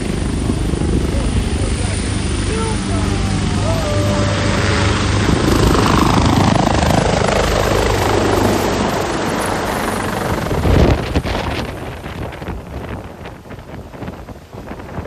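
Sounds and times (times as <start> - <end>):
helicopter rotor chop: 0.0 - 15.0
wind buffeting microphone: 0.0 - 15.0.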